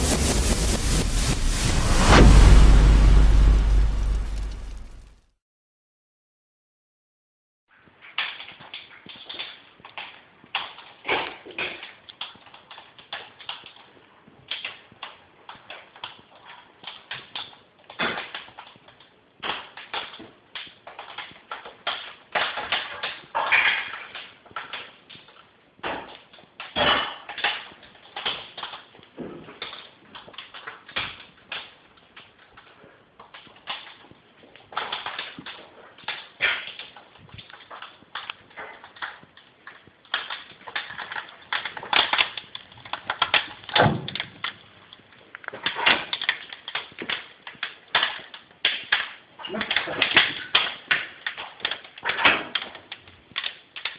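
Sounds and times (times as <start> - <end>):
fire crackling and popping: 0.0 - 5.2, 8.1 - 53.9.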